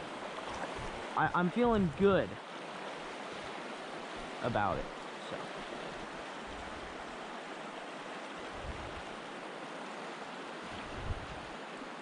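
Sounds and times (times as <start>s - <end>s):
mountain stream flowing: 0.0s - 12.0s.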